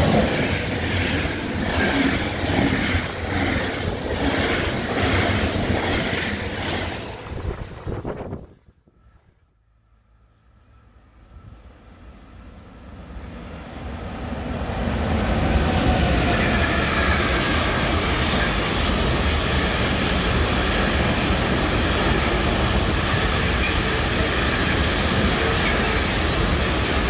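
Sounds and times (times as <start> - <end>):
train wheels rolling on rails: 0.0 - 9.3, 10.7 - 27.0.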